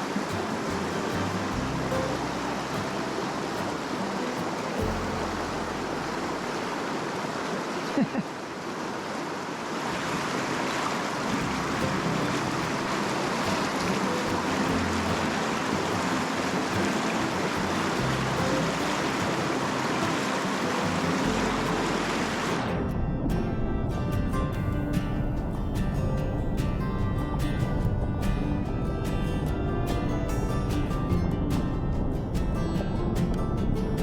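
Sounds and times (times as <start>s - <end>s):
background music: 0.0s - 7.0s, 11.3s - 34.0s
rushing creek water: 0.0s - 34.0s.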